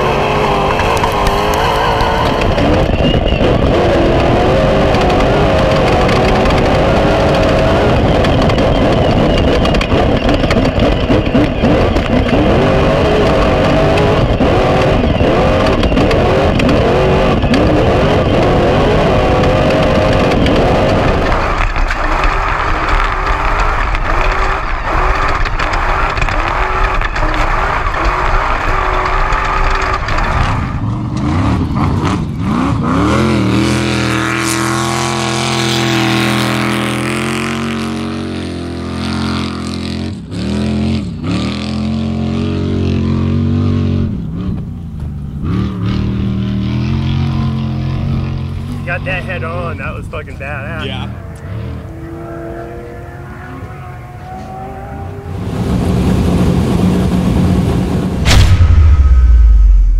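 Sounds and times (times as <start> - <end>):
truck rattling over rough ground: 0.0 - 52.1
truck engine running hard: 0.0 - 59.7.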